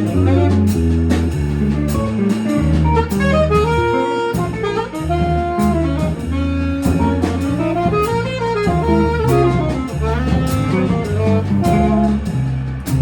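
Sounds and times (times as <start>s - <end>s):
horn playing melody: 0.0s - 12.7s
bass line: 0.0s - 13.0s
drum kit with cymbals: 0.0s - 13.0s.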